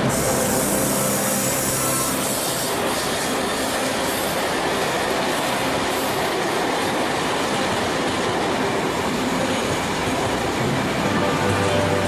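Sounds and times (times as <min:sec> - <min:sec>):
train wheels rushing on track: 0:00.0 - 0:12.0.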